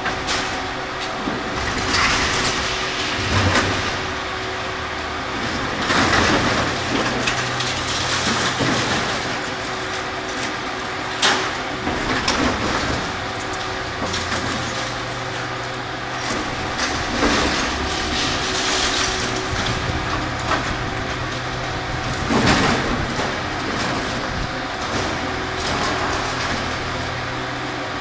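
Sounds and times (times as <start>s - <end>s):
demolition machine engine: 0.0s - 28.0s.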